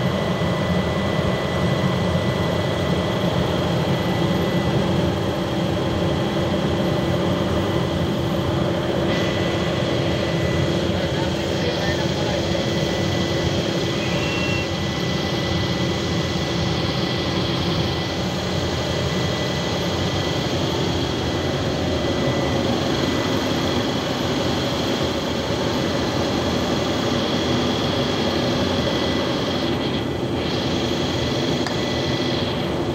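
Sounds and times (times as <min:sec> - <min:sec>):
industrial machinery drone: 0:00.0 - 0:32.9.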